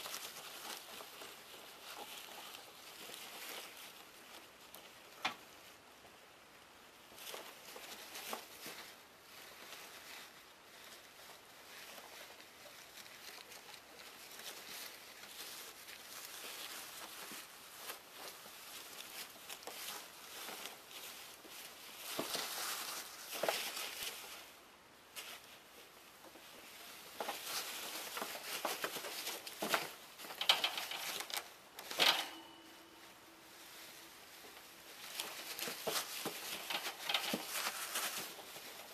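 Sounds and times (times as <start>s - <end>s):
ferrets scrabbling in paper: 0.0s - 5.6s, 7.1s - 32.4s, 33.4s - 38.9s.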